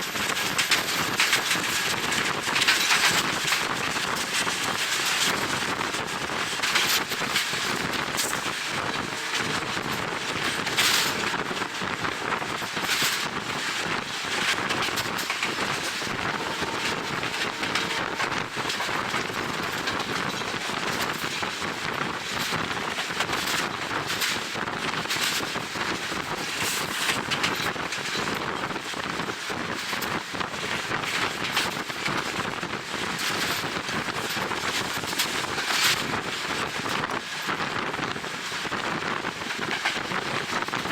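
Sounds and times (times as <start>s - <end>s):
train running noise: 0.0s - 40.9s.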